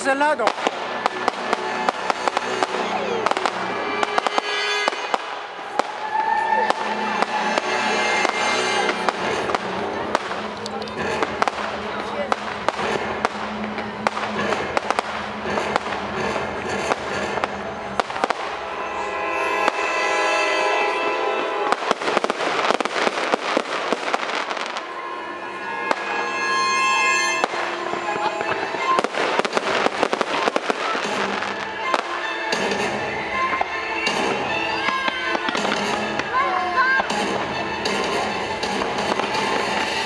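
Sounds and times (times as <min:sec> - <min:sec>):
fireworks bangs and crackling: 0:00.0 - 0:40.0
music playing: 0:00.0 - 0:40.0.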